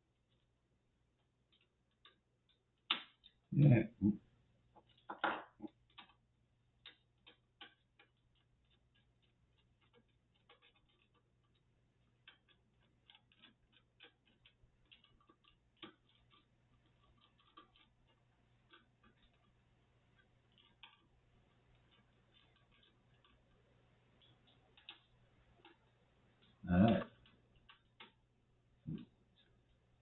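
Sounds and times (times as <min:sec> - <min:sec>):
computer parts clicking and tapping: 0:01.1 - 0:03.5, 0:04.7 - 0:30.0.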